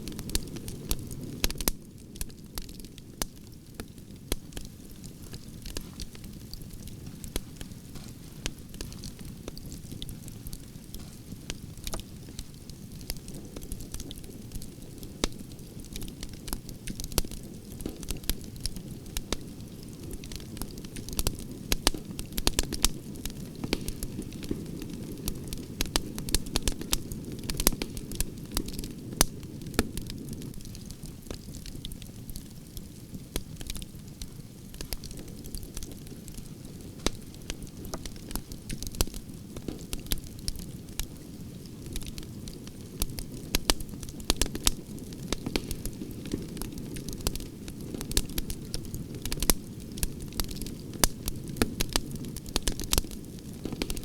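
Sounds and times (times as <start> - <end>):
campfire crackling and popping: 0.0 - 54.0
low rumble of flames: 0.0 - 54.0.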